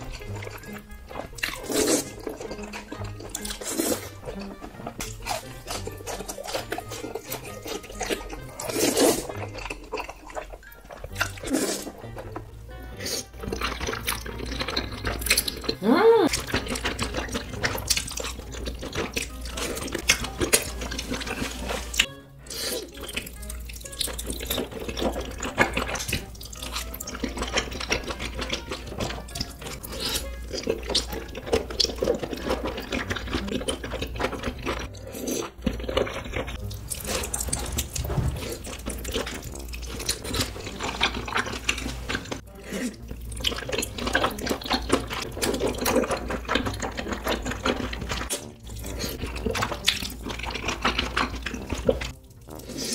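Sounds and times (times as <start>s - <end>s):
slurping and chewing noodles: 0.0s - 52.9s.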